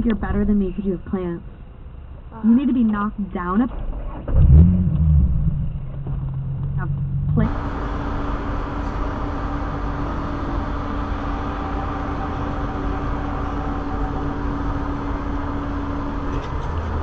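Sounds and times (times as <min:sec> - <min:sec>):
car road and engine noise: 0:00.0 - 0:17.0
steady hum: 0:00.0 - 0:17.0.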